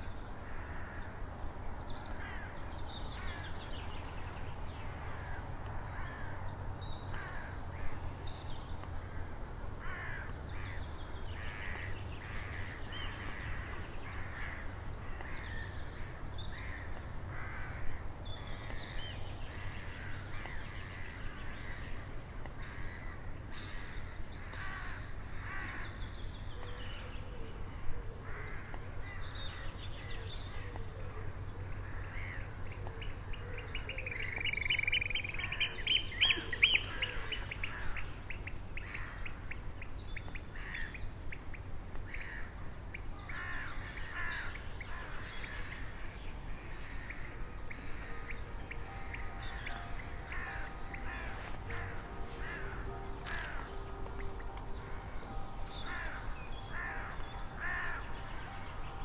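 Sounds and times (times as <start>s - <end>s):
wild birds calling: 0.0s - 8.2s, 8.8s - 59.0s.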